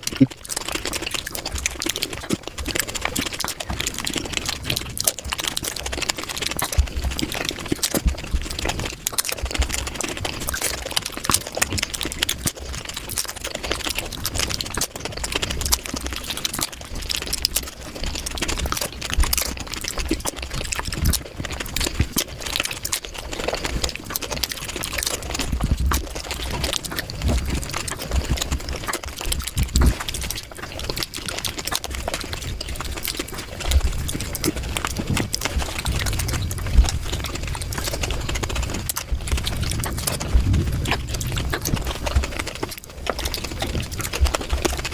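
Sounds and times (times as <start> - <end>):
sped-up crunching and chewing: 0.0 - 44.9.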